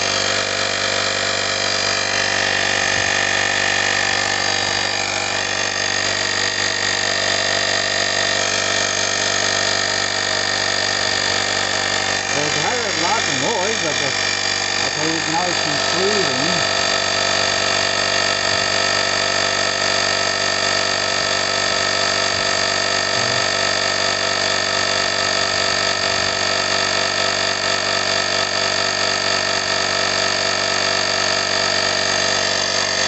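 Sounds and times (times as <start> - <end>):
electric air compressor running: 0.0 - 33.0.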